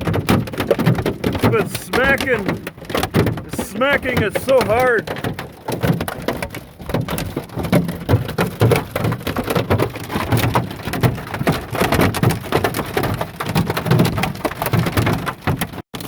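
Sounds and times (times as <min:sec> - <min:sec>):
hail and rain pelting a car: 0:00.0 - 0:16.0.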